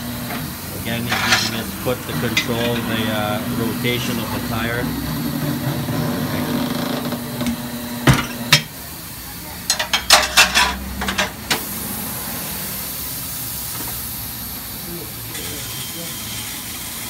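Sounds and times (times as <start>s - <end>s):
tire changer motor humming: 0.0s - 17.0s.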